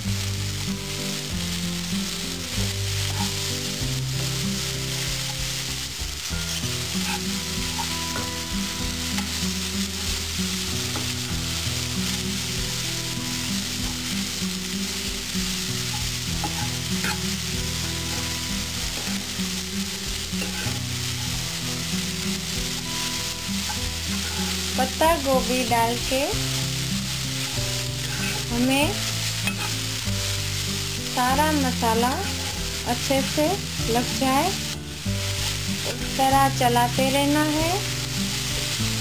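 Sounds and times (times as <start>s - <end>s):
cabbage sizzling in hot oil: 0.0s - 39.0s.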